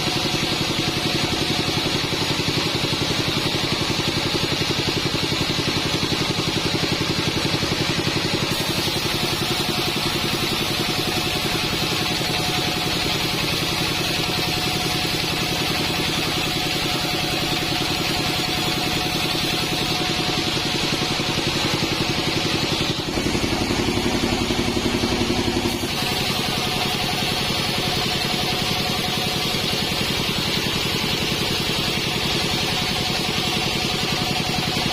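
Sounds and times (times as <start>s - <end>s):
band sawmill droning: 0.0s - 34.9s.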